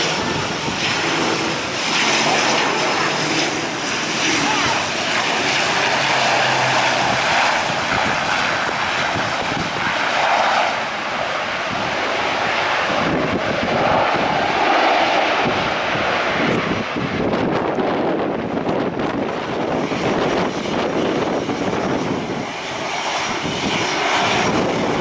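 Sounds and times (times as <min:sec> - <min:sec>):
aircraft engine noise: 0:00.0 - 0:25.0.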